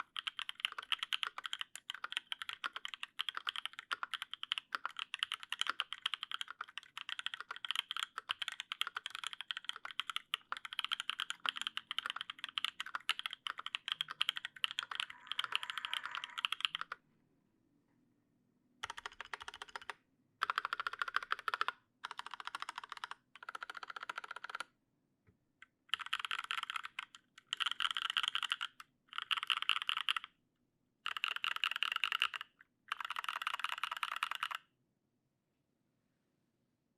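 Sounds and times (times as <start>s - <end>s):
mechanical keyboard typing: 0.0s - 17.0s, 18.8s - 24.7s, 25.9s - 30.3s, 31.1s - 34.6s.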